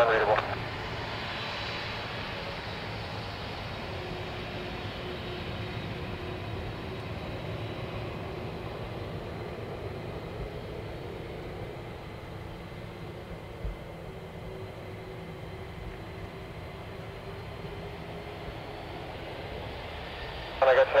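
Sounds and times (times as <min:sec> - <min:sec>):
faint high engine whine: 0:00.0 - 0:21.0
jet engines taxiing: 0:00.0 - 0:21.0.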